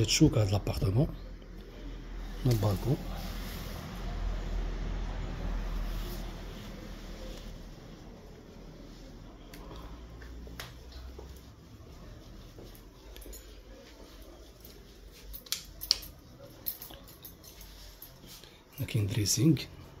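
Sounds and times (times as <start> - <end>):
low room rumble: 0.0 - 20.0.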